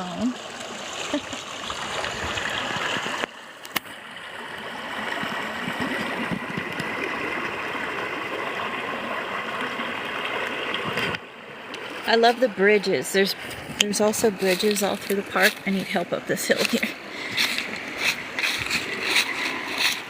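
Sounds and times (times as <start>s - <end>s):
stream running over rocks: 0.0s - 20.0s.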